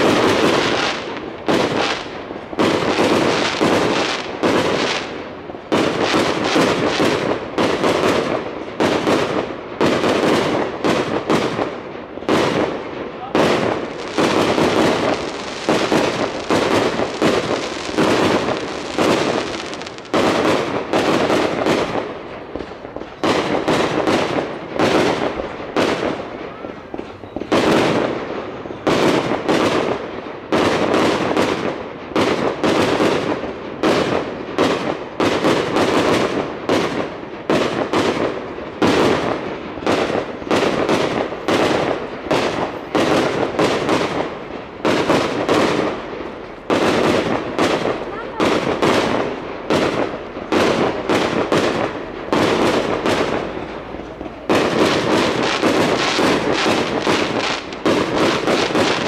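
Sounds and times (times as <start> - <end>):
fireworks bursting with bangs: 0.0 - 59.0.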